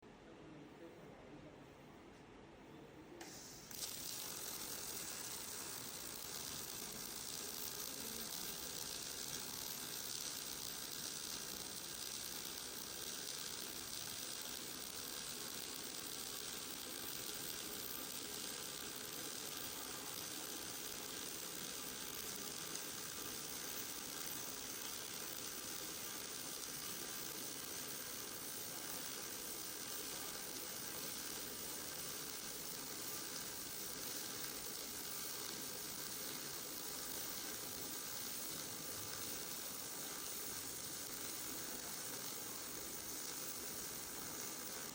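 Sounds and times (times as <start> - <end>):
laser welder hissing sizzle: 3.2 - 44.9.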